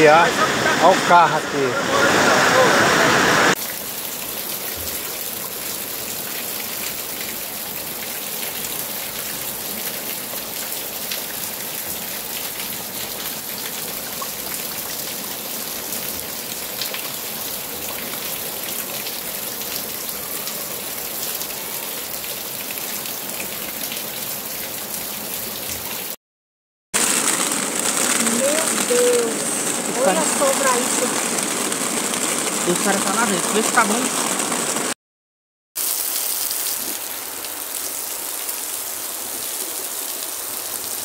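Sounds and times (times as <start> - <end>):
heavy rain on water: 0.0 - 26.2, 27.0 - 35.0, 35.8 - 41.0.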